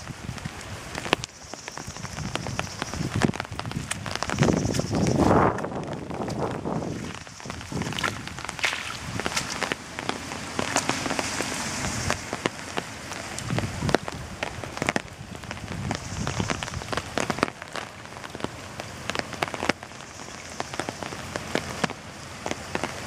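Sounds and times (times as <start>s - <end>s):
close raindrop hits: 0.0s - 23.0s
rain hissing on water: 0.0s - 23.0s.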